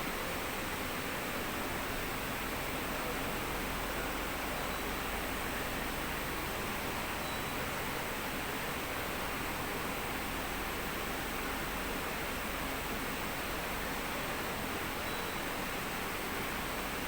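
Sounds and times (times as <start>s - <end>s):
air conditioner airflow hiss: 0.0s - 17.0s.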